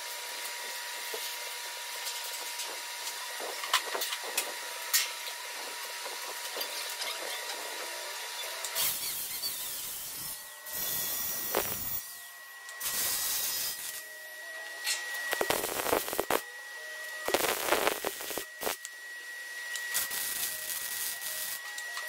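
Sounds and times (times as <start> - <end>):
welding arc crackle: 0.0 - 12.1, 12.8 - 14.1, 15.3 - 16.4, 17.2 - 18.9, 19.7 - 22.0
shop hum: 0.0 - 22.0.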